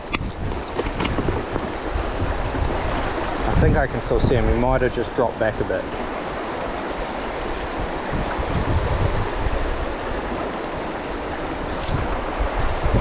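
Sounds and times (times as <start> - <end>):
river babbling over stones: 0.0 - 13.0.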